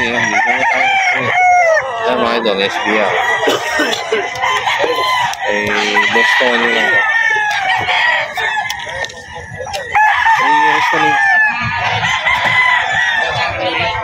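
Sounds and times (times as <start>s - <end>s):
roosters crowing: 0.0s - 14.0s.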